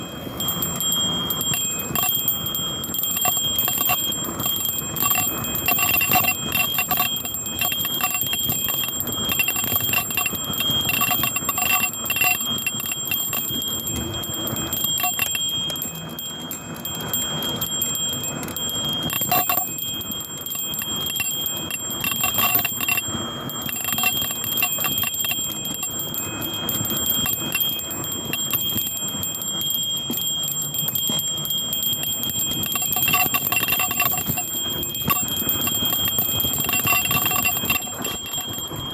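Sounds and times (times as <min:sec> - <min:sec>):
bike bell ringing and jangling: 0:00.0 - 0:38.9.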